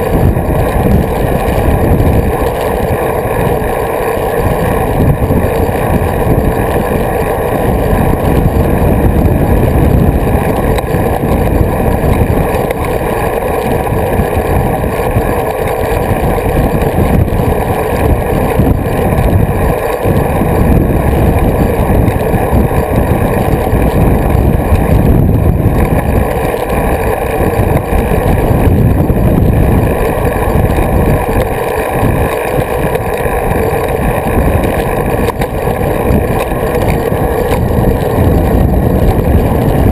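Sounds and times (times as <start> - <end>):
tyre and road noise: 0.0 - 39.9
wind rushing over microphone: 0.0 - 39.9.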